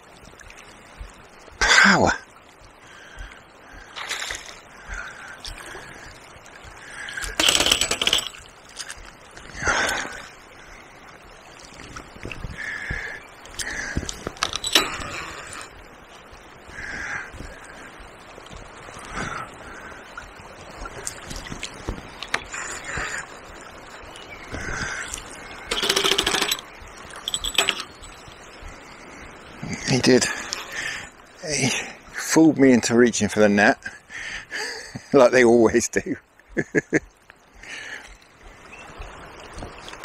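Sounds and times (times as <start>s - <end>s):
fast river water running: 0.0s - 40.0s.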